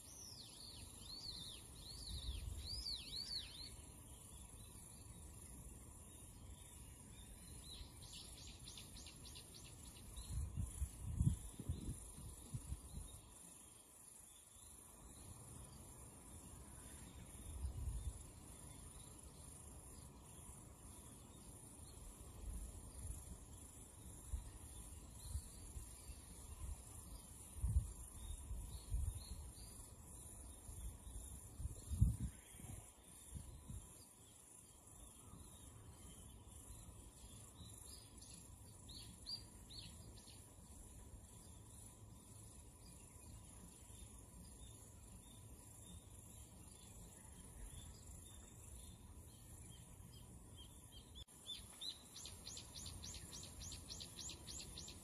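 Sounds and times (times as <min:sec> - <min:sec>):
bird chirping: 0:00.0 - 0:55.0
steady high hiss: 0:00.0 - 0:55.0.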